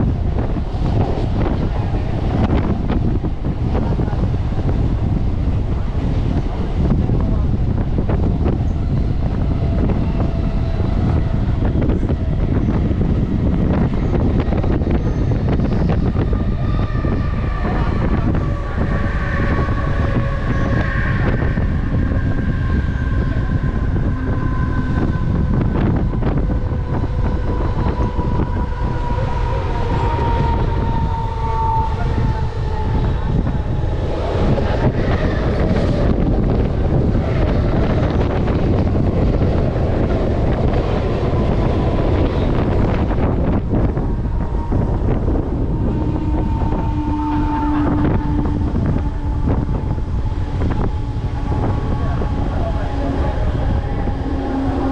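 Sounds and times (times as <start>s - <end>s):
train rumble and clatter: 0.0s - 54.9s
train whine falling in pitch: 6.3s - 54.9s.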